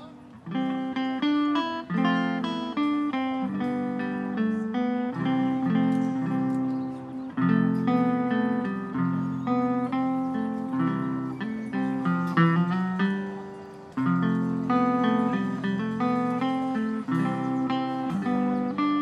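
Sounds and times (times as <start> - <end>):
archtop guitar picking: 0.0 - 19.0.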